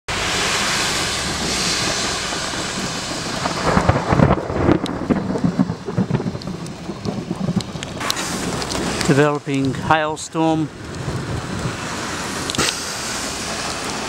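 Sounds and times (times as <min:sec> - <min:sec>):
rolling thunder rumble: 0:00.1 - 0:12.6
steady rushing noise: 0:00.1 - 0:14.0.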